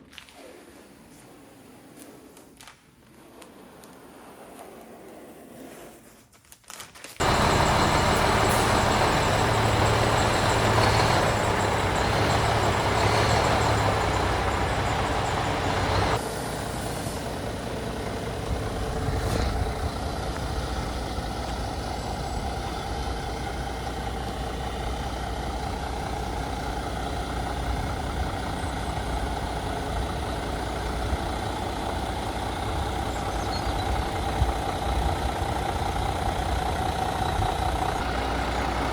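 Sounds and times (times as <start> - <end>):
diesel truck engine running: 7.2 - 38.9.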